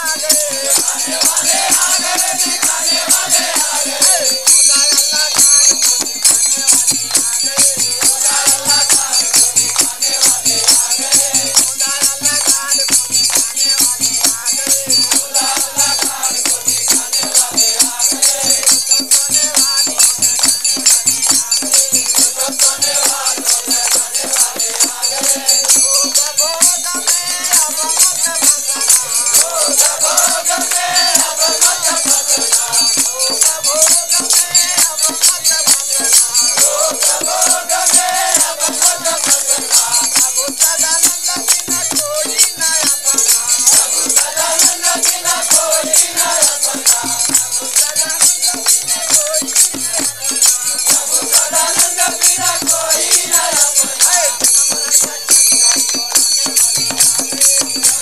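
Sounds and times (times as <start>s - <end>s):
group singing along: 0.0s - 58.0s
jingling hand percussion: 0.0s - 58.0s
man singing devotional song: 0.0s - 58.0s.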